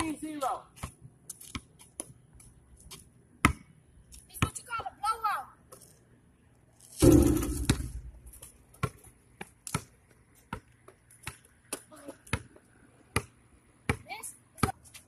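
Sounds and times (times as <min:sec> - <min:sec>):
basketball bouncing on pavement: 0:00.0 - 0:05.2, 0:07.0 - 0:15.0.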